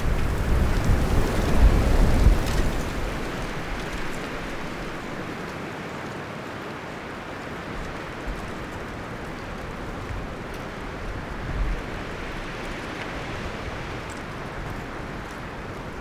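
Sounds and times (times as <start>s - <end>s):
leaves and branches rustling: 0.0s - 6.0s, 7.0s - 16.0s
wind through forest trees: 0.0s - 16.0s.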